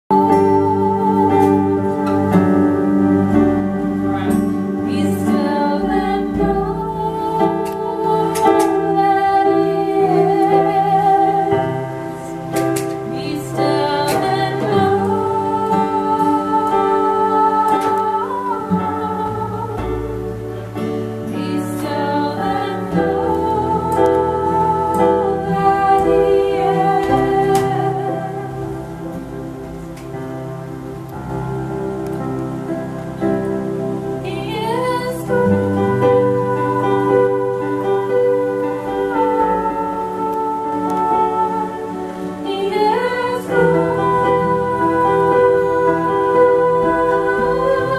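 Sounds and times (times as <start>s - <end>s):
woman singing with vibrato: 0.0s - 3.4s, 4.7s - 20.5s, 21.3s - 29.4s, 34.2s - 47.9s
acoustic guitar: 0.1s - 47.9s
keyboard organ-like chords: 0.1s - 47.9s.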